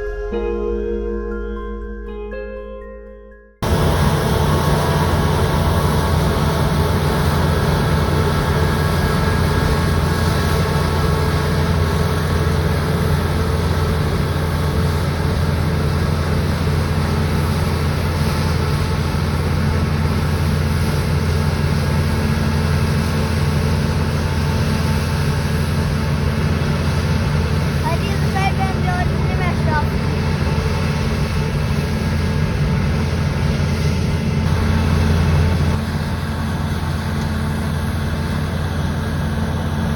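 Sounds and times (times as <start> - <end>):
deep engine drone: 0.0 - 2.8, 3.5 - 39.9
harvester machinery noise: 3.6 - 39.9.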